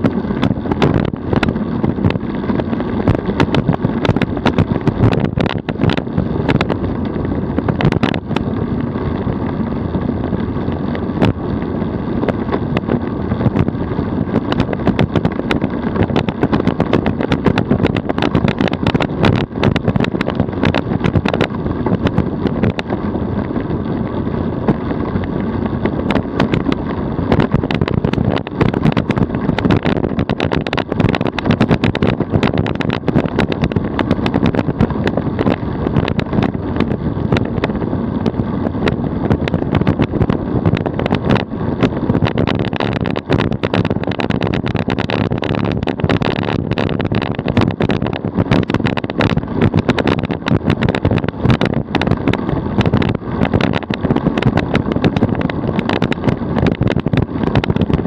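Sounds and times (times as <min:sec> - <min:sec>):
rushing air: 0:00.0 - 0:58.0
tyre and road rumble: 0:00.0 - 0:58.0.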